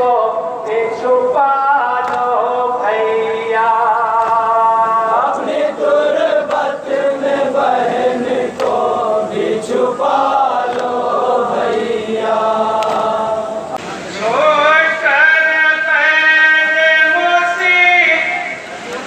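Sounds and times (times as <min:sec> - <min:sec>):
group of voices chanting a lament: 0:00.0 - 0:18.8.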